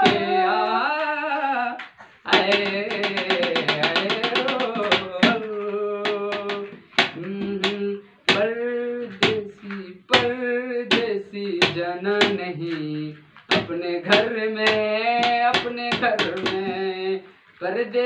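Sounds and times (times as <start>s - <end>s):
hand claps: 0.0s - 8.5s, 9.1s - 16.7s
man singing folk song: 0.0s - 18.0s.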